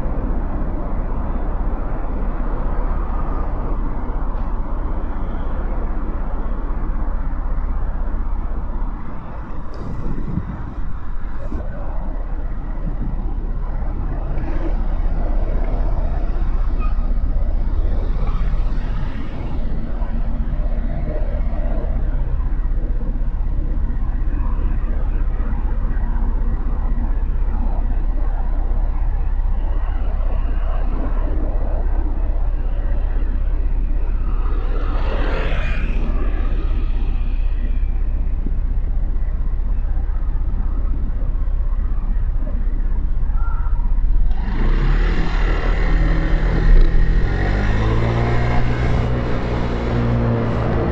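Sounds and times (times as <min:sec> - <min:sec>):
wind noise on microphone: 0:00.0 - 0:50.9.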